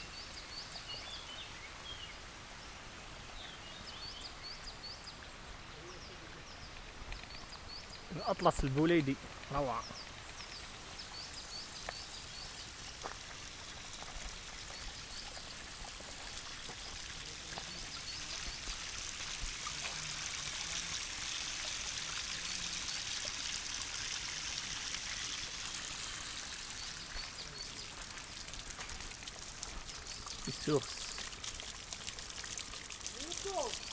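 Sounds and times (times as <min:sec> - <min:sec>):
water splashing down rock: 0:06.7 - 0:33.9.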